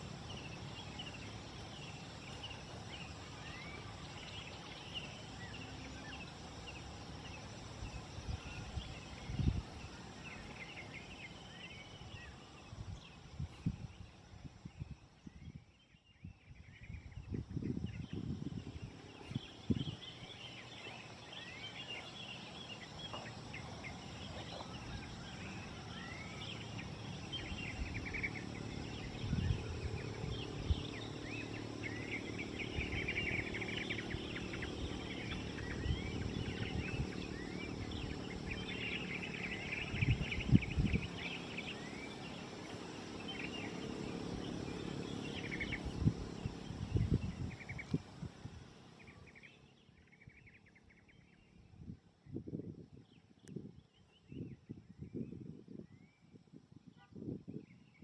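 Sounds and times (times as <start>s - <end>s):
small birds chirping: 0.0s - 58.0s
wind buffeting microphone: 6.9s - 49.3s, 50.3s - 58.0s.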